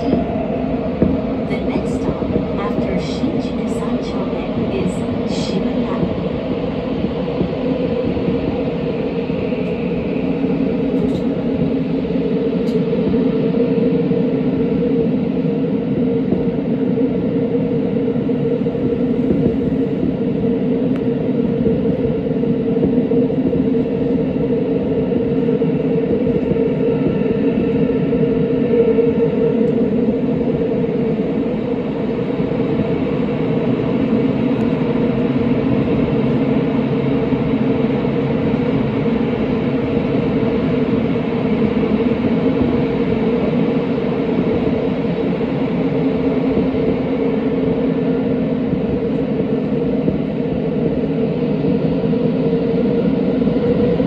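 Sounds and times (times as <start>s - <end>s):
steady low hum: 0.0s - 54.0s
subway train wheels rumbling on rail: 0.0s - 54.0s.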